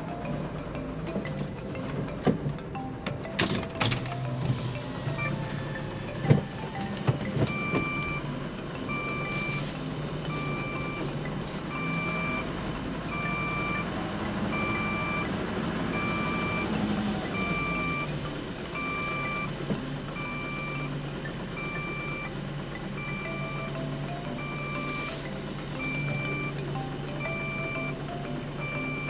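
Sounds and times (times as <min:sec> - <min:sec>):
diesel engine running: 0:00.0 - 0:29.0
truck reversing alarm beeping: 0:00.0 - 0:29.0.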